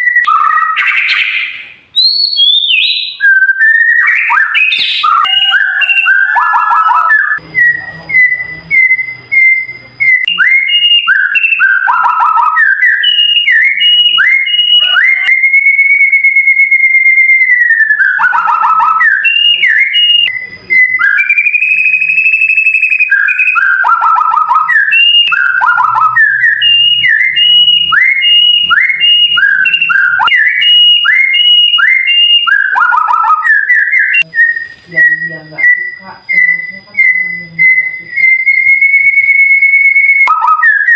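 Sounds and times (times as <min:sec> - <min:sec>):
bird singing whistled song: 0:00.0 - 0:40.9.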